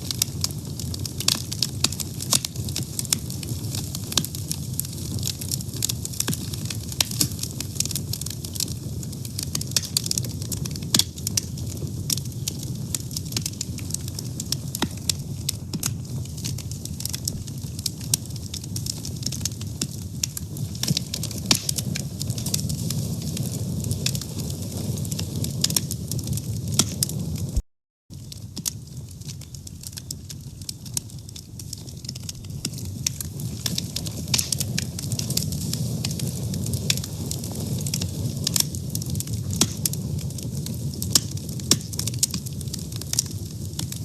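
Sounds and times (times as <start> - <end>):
fire rumbling and crackling: 0.0 - 44.0.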